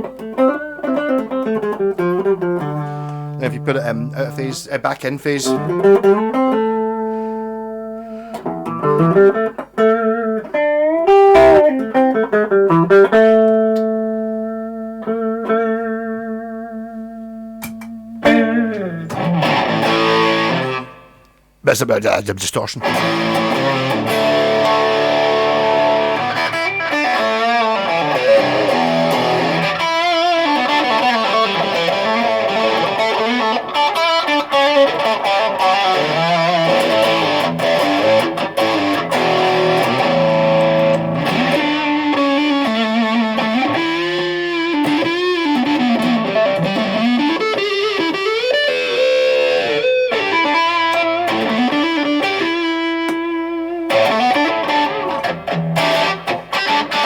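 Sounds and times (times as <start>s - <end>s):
distorted electric guitar lead: 0.0s - 21.4s, 22.8s - 57.0s.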